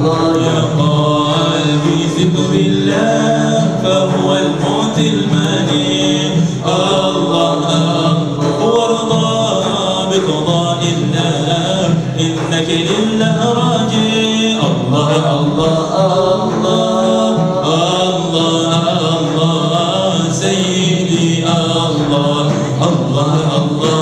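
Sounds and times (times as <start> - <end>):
male group chanting and singing: 0.0 - 24.0.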